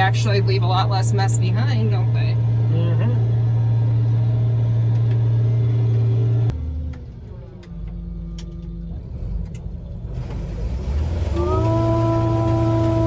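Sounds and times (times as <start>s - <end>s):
farm machinery engine drone: 0.0s - 13.0s
low rumble: 0.0s - 13.0s.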